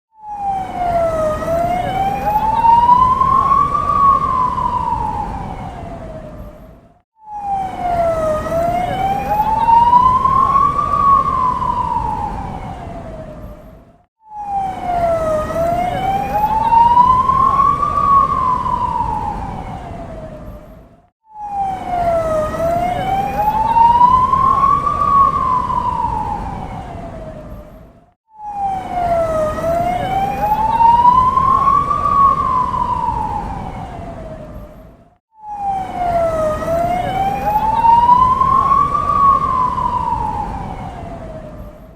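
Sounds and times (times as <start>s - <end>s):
ambulance siren wailing: 0.1s - 41.9s
city traffic rumble: 0.4s - 13.8s, 14.5s - 20.8s, 21.6s - 27.9s, 28.6s - 34.9s, 35.6s - 41.9s.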